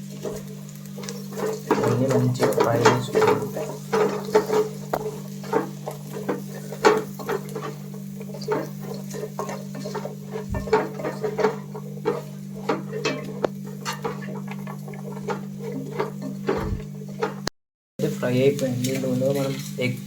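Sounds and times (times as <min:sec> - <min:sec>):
spatula clinking and scraping a pan: 0:00.0 - 0:17.5
steady low hum: 0:00.1 - 0:19.2.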